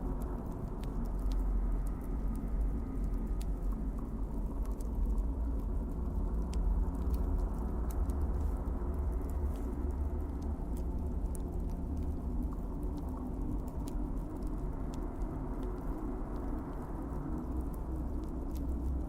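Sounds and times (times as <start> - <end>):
fire flames rumbling: 0.0 - 19.0
logs crackling and popping: 0.0 - 19.0.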